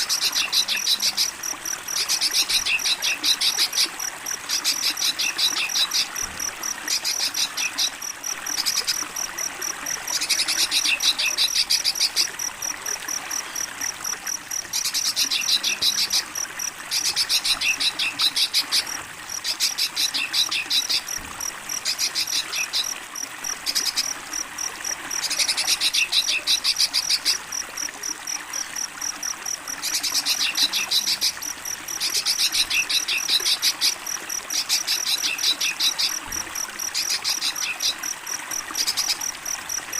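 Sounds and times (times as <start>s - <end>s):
crickets chirping: 0.0s - 39.9s
running water hiss: 0.0s - 39.9s.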